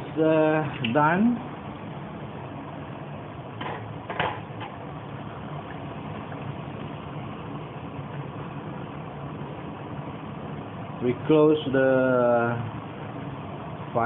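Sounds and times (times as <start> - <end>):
stove burner noise: 0.0 - 14.0.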